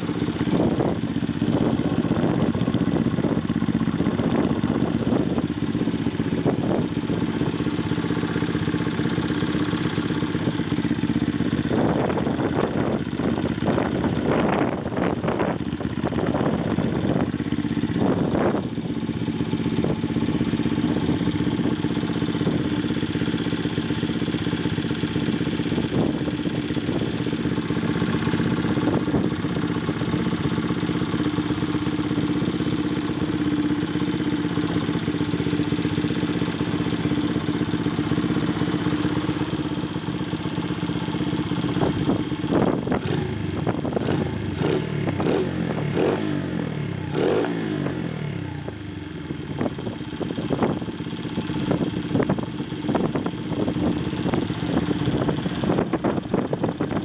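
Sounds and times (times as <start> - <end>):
minibike engine idling and revving: 0.0 - 57.0.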